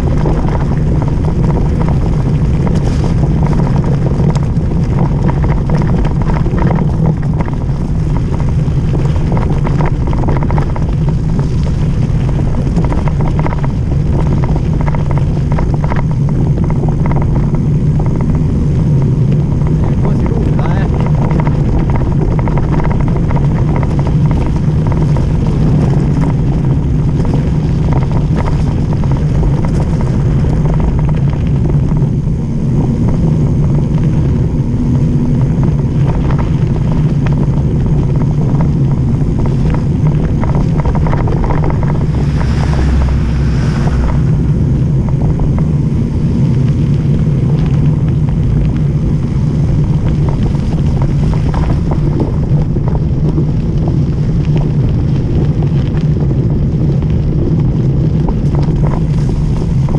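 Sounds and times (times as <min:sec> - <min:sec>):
bike tyres on gravel: 0:00.0 - 0:59.9
rattles and clicks from bumps: 0:00.0 - 0:59.9
wind rumble on microphone: 0:00.0 - 0:59.9.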